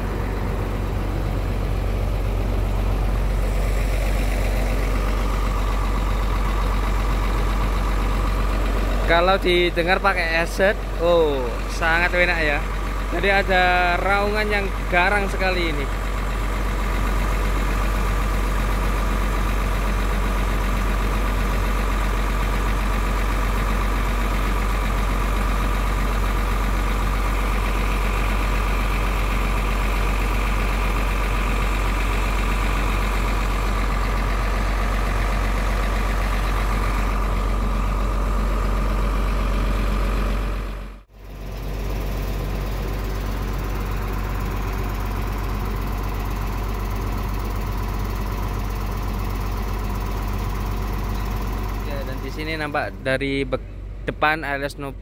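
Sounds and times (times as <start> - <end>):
bus engine idling roar: 0.0 - 55.0.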